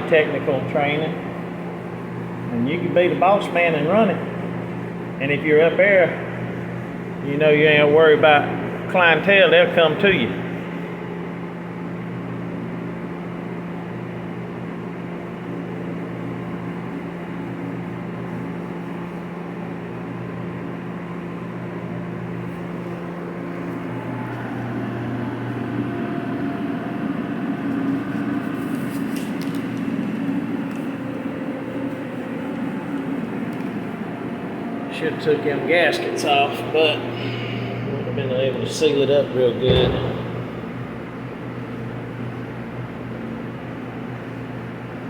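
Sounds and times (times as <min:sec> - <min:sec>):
machinery hum: 0:00.0 - 0:45.0.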